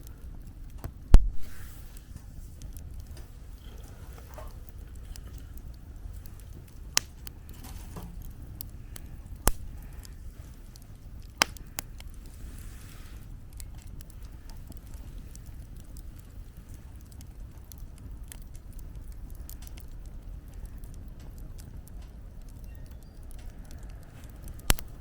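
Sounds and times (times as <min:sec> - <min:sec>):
campfire crackling: 0:00.0 - 0:25.0
low wind rumble: 0:00.0 - 0:25.0
sharp fire pops: 0:00.0 - 0:25.0.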